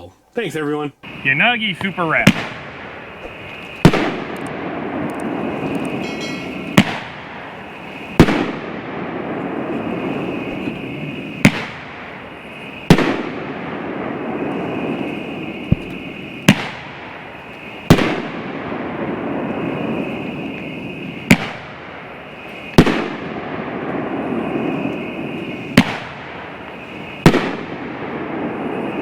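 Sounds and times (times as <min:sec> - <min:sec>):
steady hissing: 0:00.0 - 0:29.0
firework bangs: 0:01.0 - 0:29.0.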